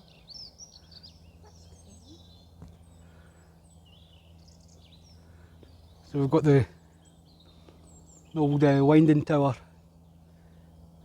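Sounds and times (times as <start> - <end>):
faint low hum: 0.0 - 11.0
songbirds twittering: 0.0 - 11.0.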